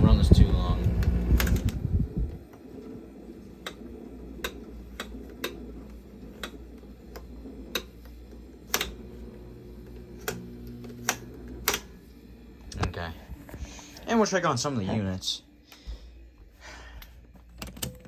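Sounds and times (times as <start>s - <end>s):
air conditioner rumbling: 0.0s - 18.0s.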